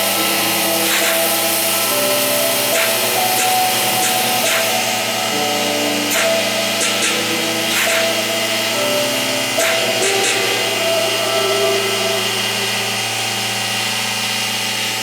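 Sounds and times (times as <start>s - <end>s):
milling machine motors whining: 0.0s - 15.0s
steady cutting noise: 0.0s - 15.0s.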